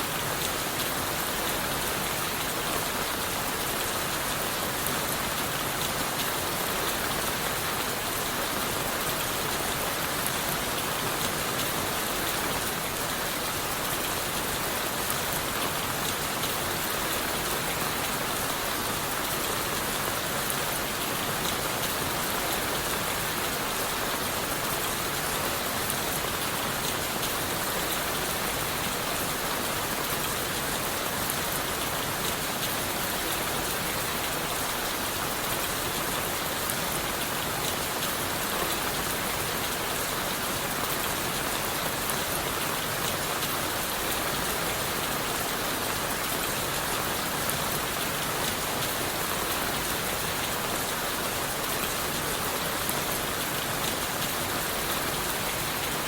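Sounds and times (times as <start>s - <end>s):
rain falling on leaves and wood: 0.0s - 56.0s.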